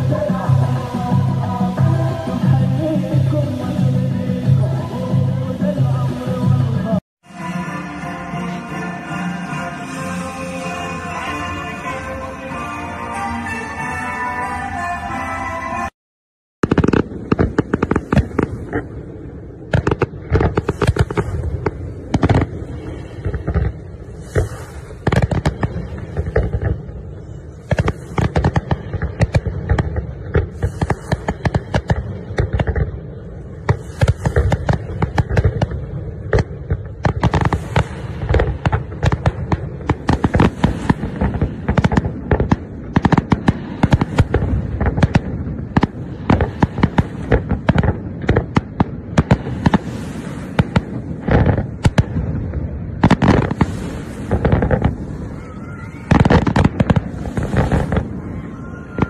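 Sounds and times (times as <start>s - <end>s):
fireworks bursting: 0.0s - 15.9s, 16.6s - 59.0s.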